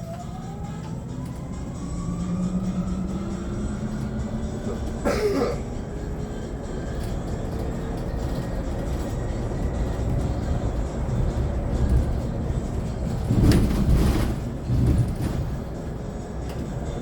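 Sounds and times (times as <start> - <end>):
road and tyre rumble: 0.0 - 17.0.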